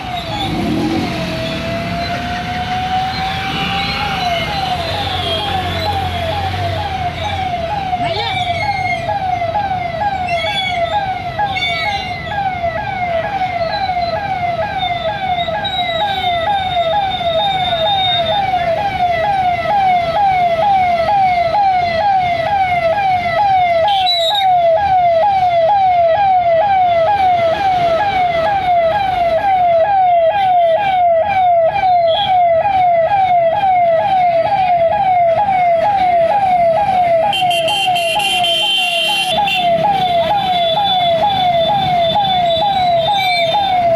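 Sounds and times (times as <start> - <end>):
electronic siren cycling rapidly: 0.0 - 22.7, 30.6 - 43.9.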